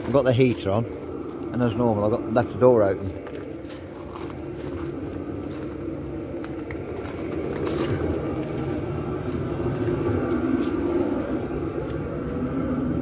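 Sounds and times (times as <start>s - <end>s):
air heater humming: 0.0s - 13.0s.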